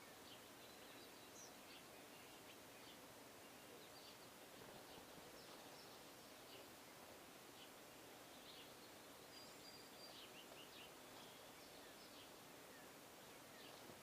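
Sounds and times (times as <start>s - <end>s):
faint bird chirps: 0.0s - 14.0s
outdoor background hiss: 0.0s - 14.0s.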